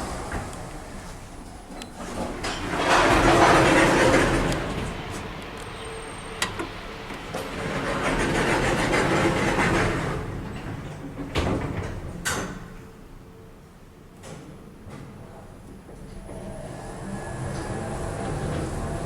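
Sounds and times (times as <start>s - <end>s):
lift doors sliding: 0.0s - 12.8s, 16.1s - 19.0s.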